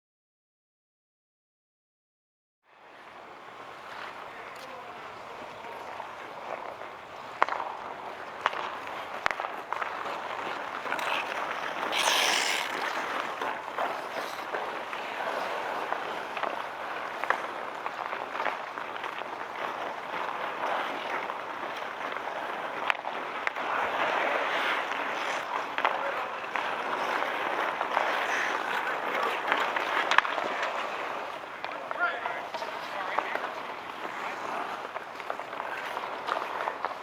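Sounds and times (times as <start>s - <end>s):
skates scraping on ice: 2.7s - 37.0s
hockey sticks and puck clicking: 3.0s - 37.0s.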